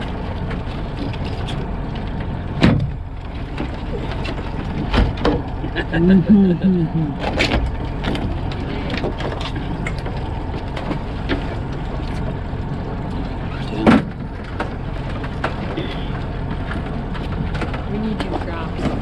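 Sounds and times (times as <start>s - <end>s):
boat engine and water: 0.0s - 19.0s.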